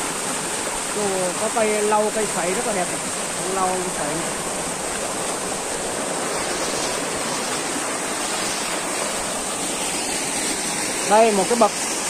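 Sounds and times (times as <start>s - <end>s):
waterfall pouring over rocks: 0.0s - 12.0s.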